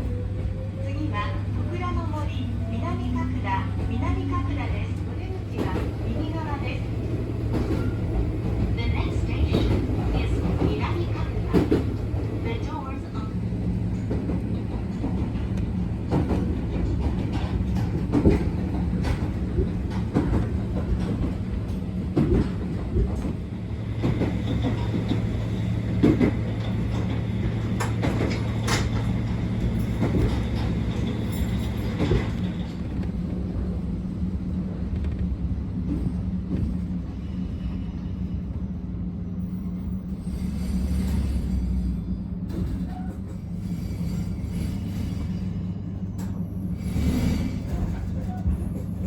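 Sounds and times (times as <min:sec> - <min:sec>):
train rumble and hum: 0:00.0 - 0:49.0.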